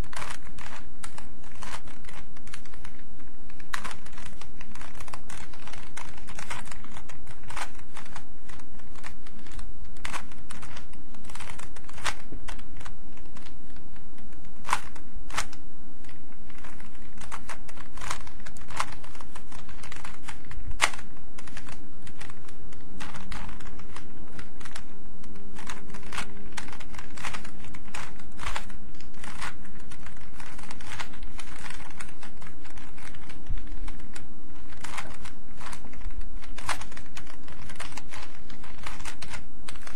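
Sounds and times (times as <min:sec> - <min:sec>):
puzzle cube clicking: 0:00.0 - 0:39.9.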